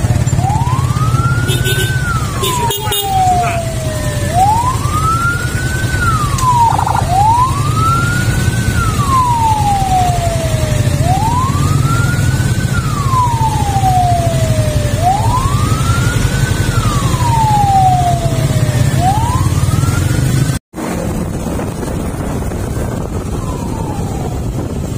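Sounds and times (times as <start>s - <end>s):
ambulance siren wailing: 0.0s - 20.6s, 22.6s - 24.9s
vehicle engines rumbling: 0.0s - 24.9s.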